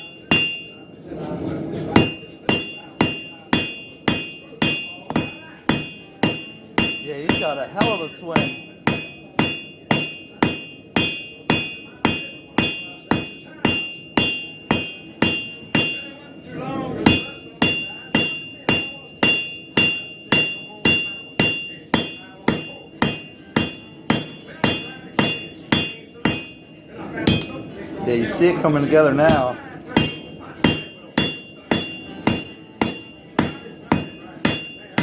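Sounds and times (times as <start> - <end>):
hammer striking metal on anvil: 0.0 - 1.0, 1.8 - 35.0.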